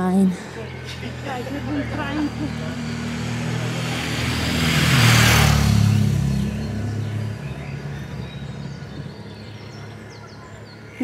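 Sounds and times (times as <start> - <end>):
motorcycle passing: 0.0 - 11.0.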